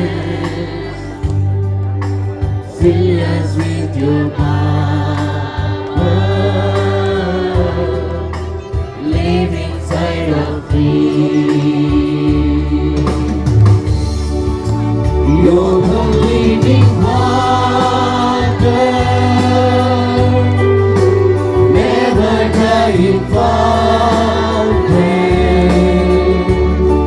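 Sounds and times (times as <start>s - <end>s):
group of singers: 0.0s - 27.0s
instrumental accompaniment: 0.0s - 27.0s.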